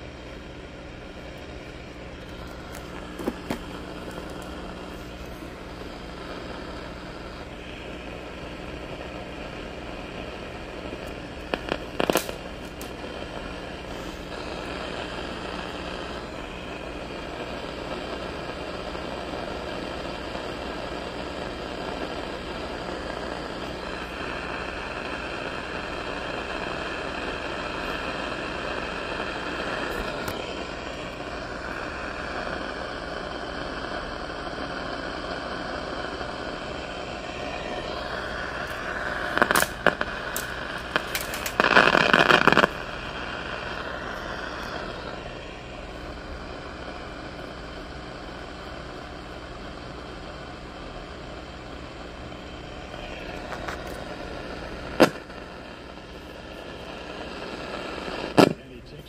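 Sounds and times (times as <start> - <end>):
radio static hiss: 0.0 - 59.0.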